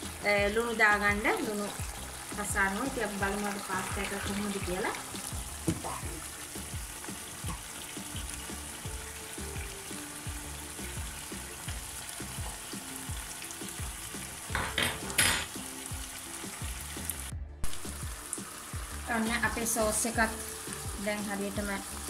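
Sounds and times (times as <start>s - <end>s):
water boiling in a pot: 0.0s - 22.0s.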